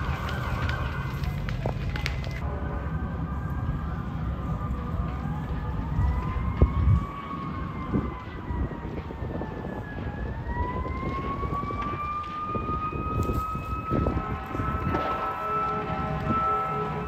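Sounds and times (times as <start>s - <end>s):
siren wailing: 0.0s - 17.0s.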